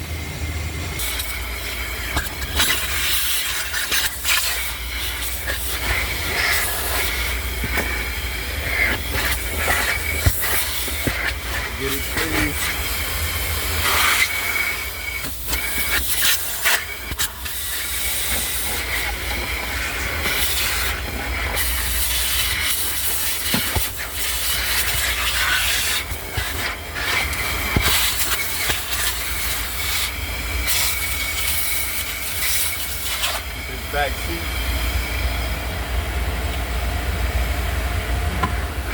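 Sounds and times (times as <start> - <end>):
vacuum hose sucking: 1.0 - 35.6.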